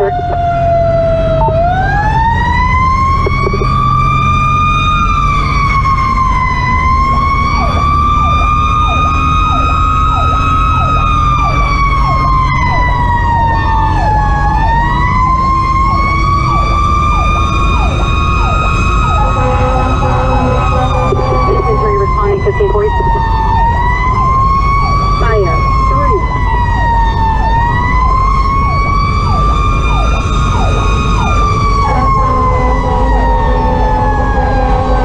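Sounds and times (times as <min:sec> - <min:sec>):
diesel engine drone: 0:00.0 - 0:35.0
mechanical siren wailing: 0:00.0 - 0:35.0
siren rapid falling sweep: 0:00.0 - 0:35.0.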